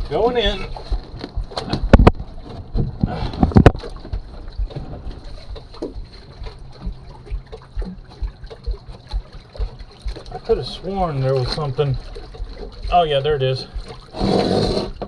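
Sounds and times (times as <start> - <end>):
rumbling handling noise: 0.0 - 15.0.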